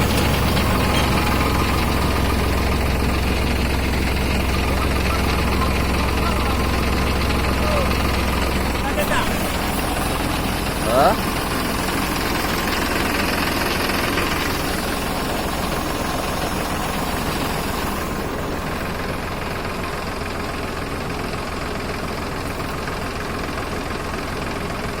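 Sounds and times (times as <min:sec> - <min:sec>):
tractor engine idling: 0:00.0 - 0:25.0.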